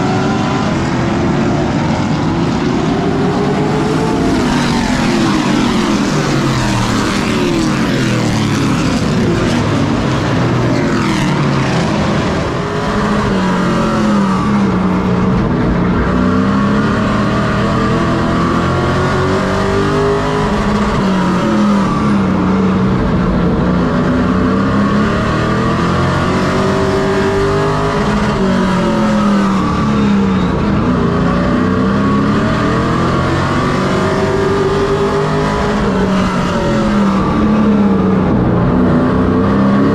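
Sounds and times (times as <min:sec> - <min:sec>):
race truck engine: 0:00.0 - 0:39.9.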